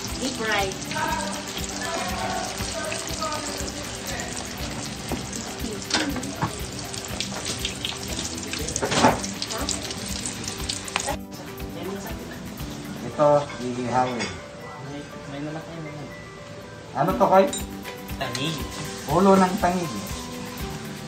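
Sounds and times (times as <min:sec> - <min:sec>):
meat deep-frying in oil: 0:00.0 - 0:14.1, 0:17.2 - 0:21.0.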